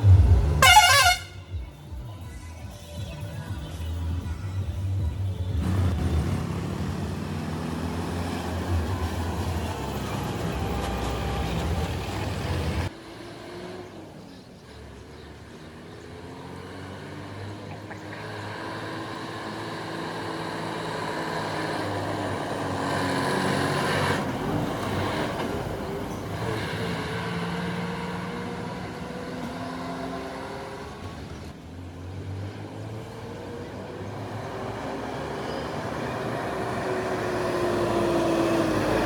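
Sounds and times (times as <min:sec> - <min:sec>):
heavy vehicle engines labouring: 0:00.0 - 0:39.0.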